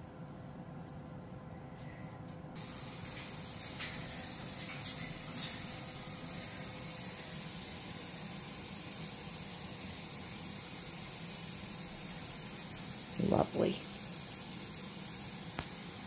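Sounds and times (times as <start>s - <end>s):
air purifier fans whooshing: 0.0s - 16.0s.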